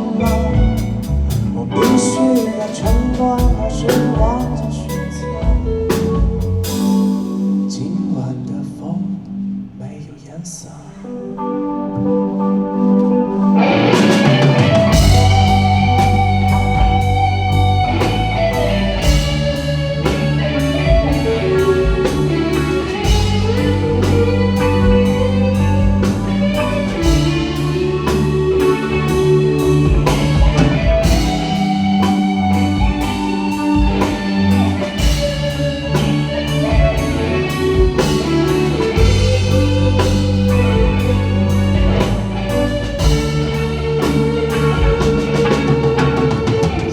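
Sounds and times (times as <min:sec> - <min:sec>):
drum kit beat: 0:00.0 - 0:07.7, 0:12.0 - 0:46.9
bass: 0:00.0 - 0:10.1, 0:10.7 - 0:46.9
guitar melody: 0:00.0 - 0:46.9.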